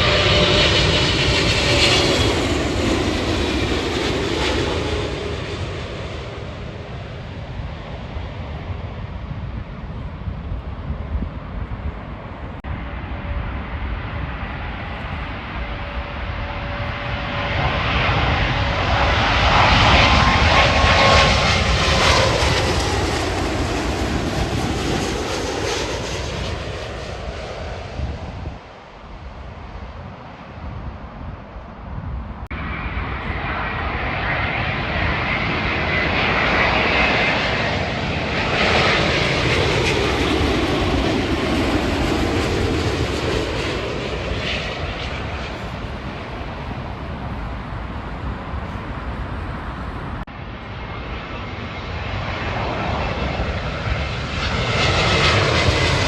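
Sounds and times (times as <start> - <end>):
jet airliner passing overhead: 0.0 - 56.0
jet engine whine: 0.0 - 56.0.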